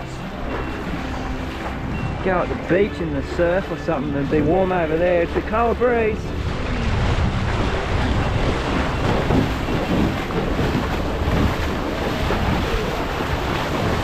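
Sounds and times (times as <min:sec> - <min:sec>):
water splashing: 0:00.0 - 0:14.0
wind buffeting microphone: 0:00.0 - 0:14.0.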